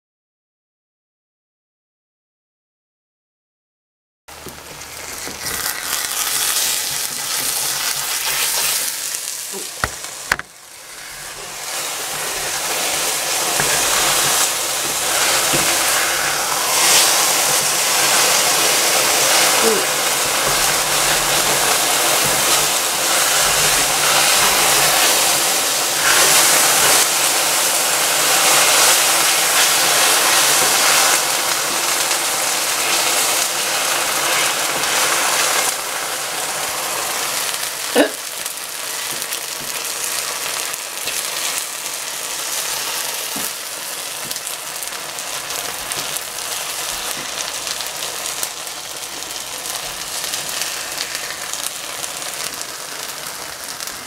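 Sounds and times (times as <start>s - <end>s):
food sizzling in a pan: 4.3s - 54.0s.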